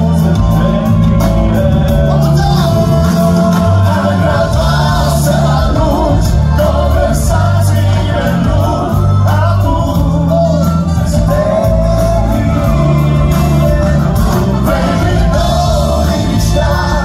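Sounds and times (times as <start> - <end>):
live band with bass and drums: 0.0 - 17.0
men singing into microphones: 0.0 - 17.0.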